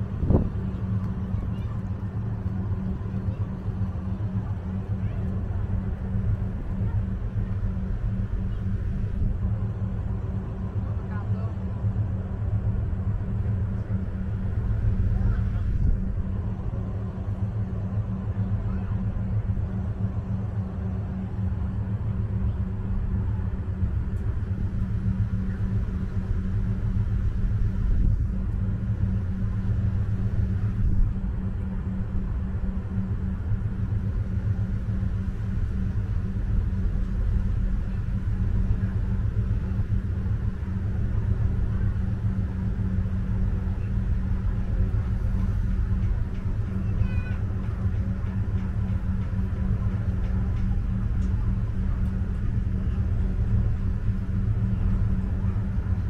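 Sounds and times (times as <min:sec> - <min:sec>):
ferry diesel engines rumbling: 0:00.0 - 0:56.0.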